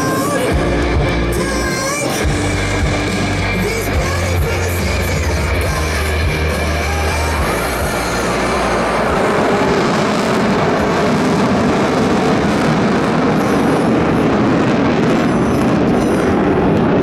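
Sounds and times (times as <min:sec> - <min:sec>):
jet roar overhead: 0:00.0 - 0:17.0.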